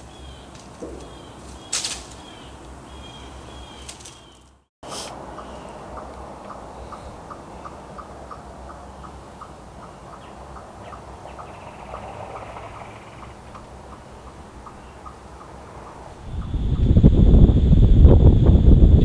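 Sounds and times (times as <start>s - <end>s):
wind rumble: 0.0s - 19.0s.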